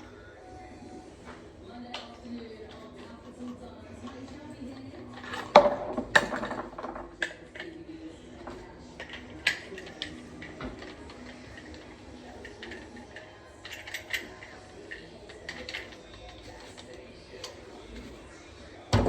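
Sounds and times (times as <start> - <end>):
metal tools knocking and clicking: 1.9 - 18.1.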